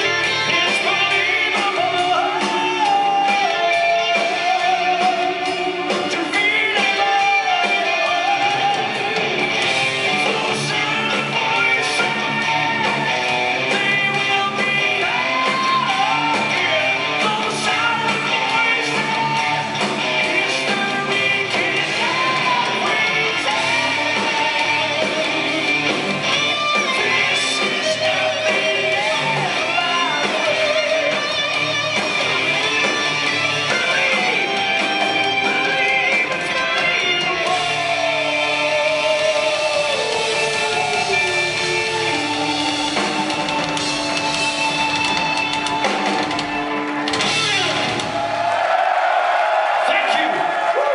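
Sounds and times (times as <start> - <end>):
live rock band playing: 0.0 - 50.8
electric guitars: 0.0 - 50.9.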